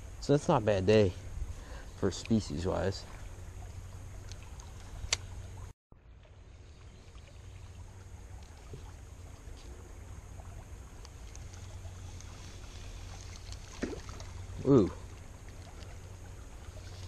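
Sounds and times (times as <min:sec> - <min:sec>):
faint water hiss: 0:00.0 - 0:17.0.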